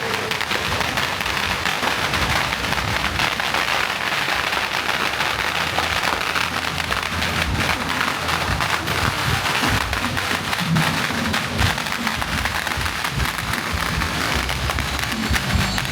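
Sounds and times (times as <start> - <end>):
firecrackers crackling: 0.0 - 15.9.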